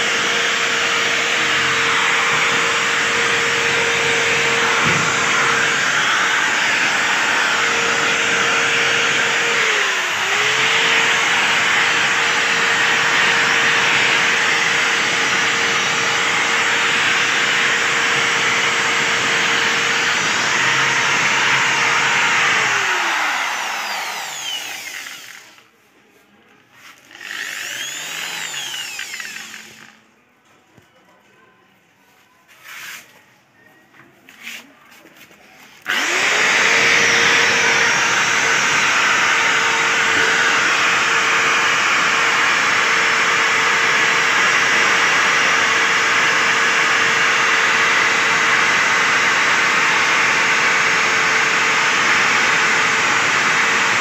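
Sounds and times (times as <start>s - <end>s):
drill sanding sheet metal: 0.0s - 25.6s, 27.0s - 30.0s, 35.8s - 54.0s.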